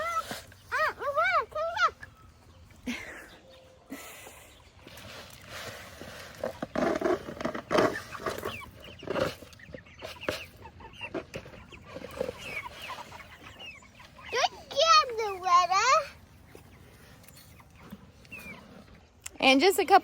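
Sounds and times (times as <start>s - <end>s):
chickens clucking and chirping: 0.0s - 20.0s.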